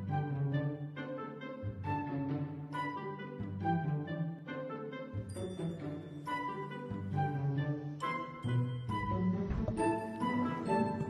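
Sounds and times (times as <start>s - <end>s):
background music with string chords: 0.0s - 11.0s.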